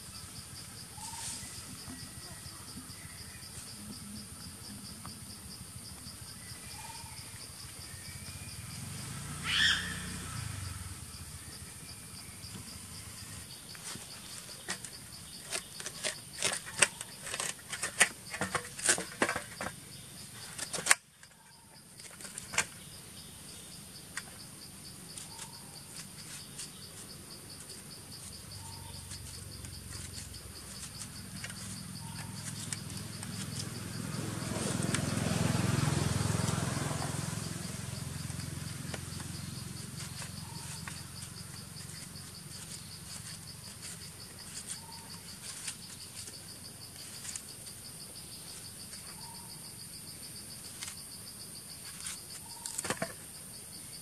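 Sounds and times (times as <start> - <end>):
forest insects buzzing: 0.0 - 54.0.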